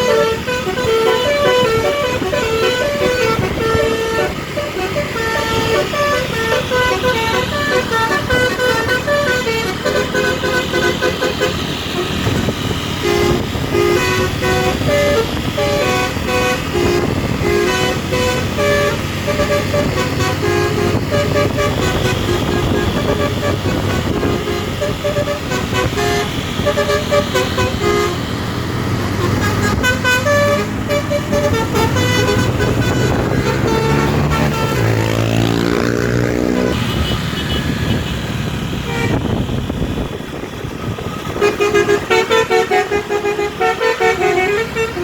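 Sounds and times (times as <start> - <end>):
musical bus horn notes: 0.0 - 40.1, 40.8 - 45.0.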